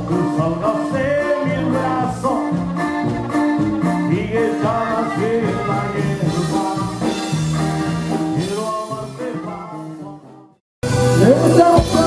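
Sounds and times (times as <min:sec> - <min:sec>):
button accordion melody: 0:00.0 - 0:10.0
bajo sexto: 0:00.0 - 0:12.0
drums: 0:00.0 - 0:12.0
electric bass: 0:00.0 - 0:12.0.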